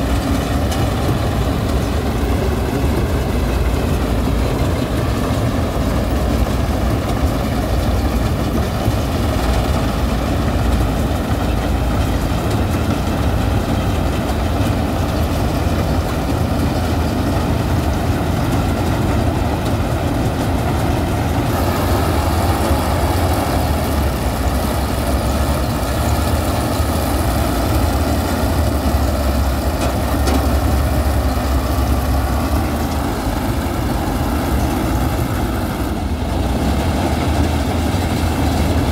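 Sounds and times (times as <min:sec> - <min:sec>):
combine harvester engine and threshing: 0:00.0 - 0:38.9.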